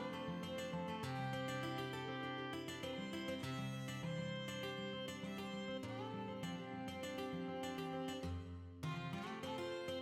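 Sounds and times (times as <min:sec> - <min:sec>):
plucked acoustic guitar music: 0:00.0 - 0:10.0.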